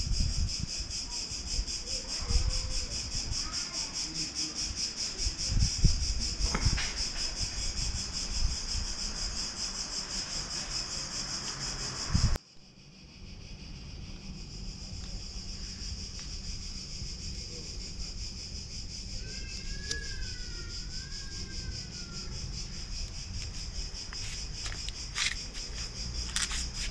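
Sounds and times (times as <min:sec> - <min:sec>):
insects droning: 0:00.0 - 0:26.9.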